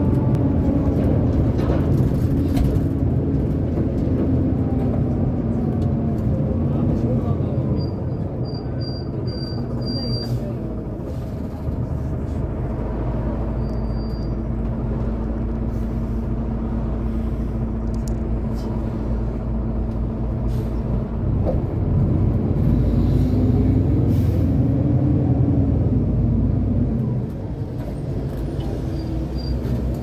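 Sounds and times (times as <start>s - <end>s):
bus engine hum: 0.0s - 30.0s
road noise rumble: 0.0s - 30.0s.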